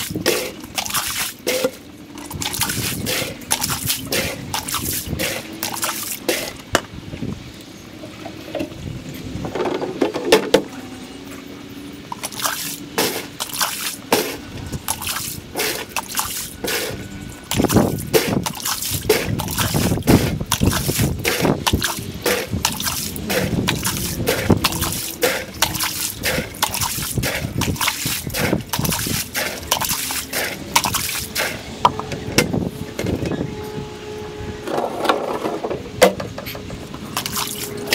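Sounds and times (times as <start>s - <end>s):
water trickling and sloshing: 0.0s - 32.1s, 36.8s - 37.9s.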